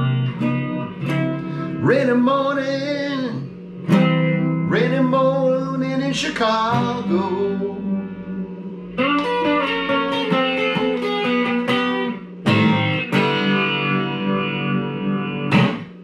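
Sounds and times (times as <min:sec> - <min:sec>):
guitar chords ringing: 0:00.0 - 0:16.0.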